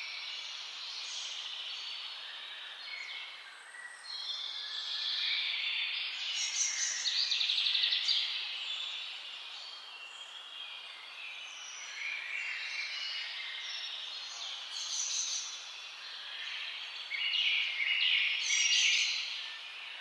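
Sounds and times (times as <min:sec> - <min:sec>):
birds singing and calling: 0:00.0 - 0:20.0.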